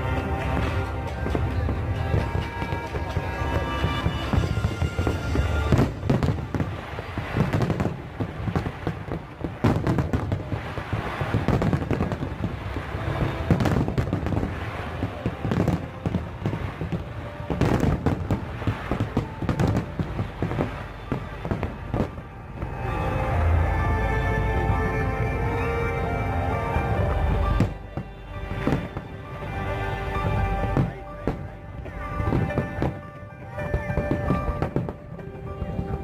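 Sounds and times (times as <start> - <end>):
fireworks bangs and crackling: 0.0 - 25.4, 26.5 - 36.0
low rumble: 0.0 - 36.0
music playing: 0.0 - 36.0.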